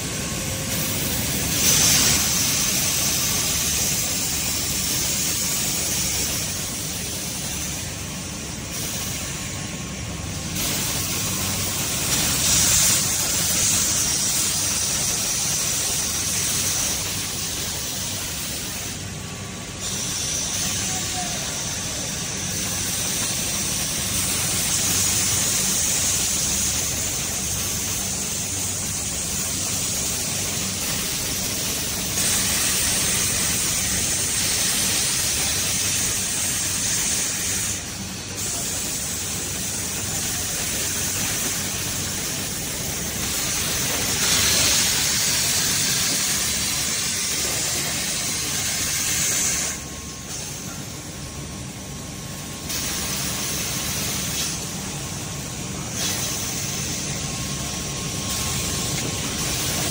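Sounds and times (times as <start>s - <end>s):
casting machines hissing: 0.0s - 59.9s.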